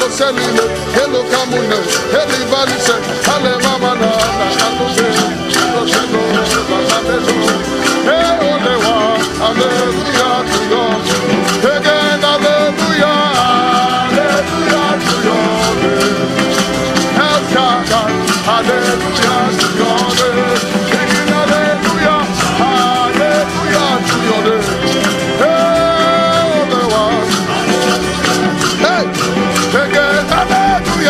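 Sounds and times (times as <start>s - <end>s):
hand percussion: 0.0s - 31.0s
upbeat gospel band music: 0.0s - 31.0s.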